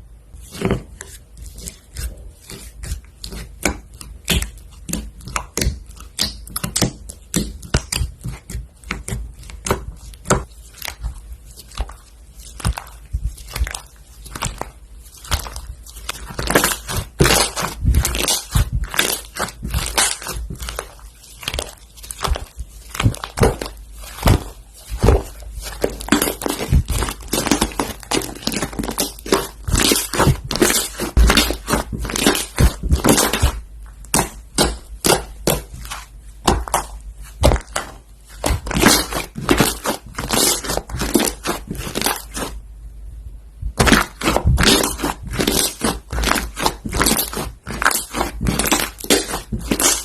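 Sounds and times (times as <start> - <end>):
crunchy slime crackling and popping: 1.5 - 42.6, 43.6 - 50.0.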